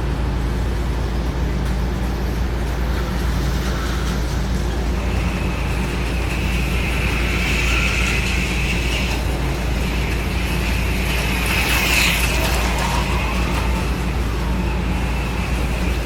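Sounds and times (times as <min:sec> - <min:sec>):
slot car motors whining: 0:00.0 - 0:16.0
steady low hum: 0:00.0 - 0:16.0.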